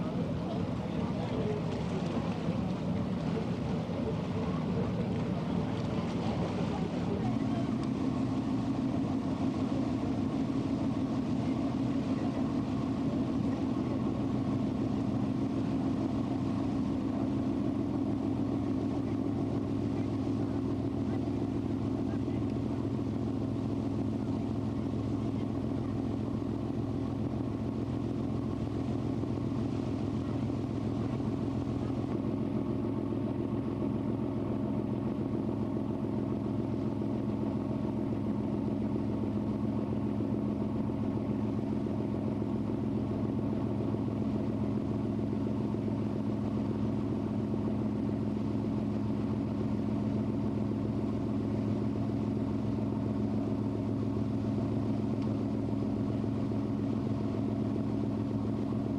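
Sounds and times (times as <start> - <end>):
boat engine droning: 0.0 - 58.9.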